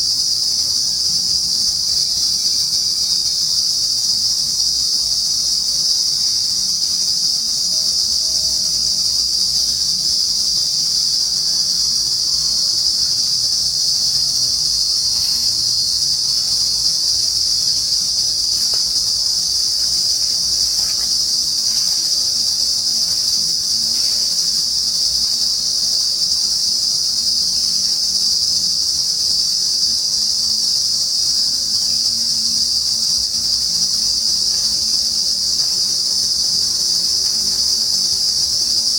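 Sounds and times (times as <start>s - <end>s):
insects buzzing shrilly: 0.0s - 38.9s.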